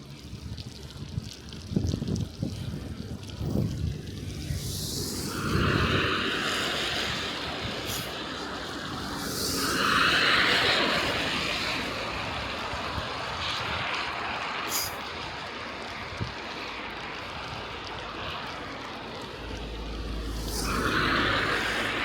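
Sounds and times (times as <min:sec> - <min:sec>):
bicycle tyres hissing over snow: 0:00.0 - 0:22.0
wind on microphone: 0:00.0 - 0:22.0.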